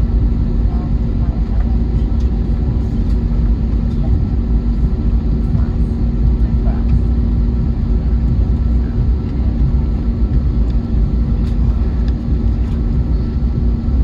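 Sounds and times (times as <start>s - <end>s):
aircraft cabin engine rumble: 0.0s - 14.0s.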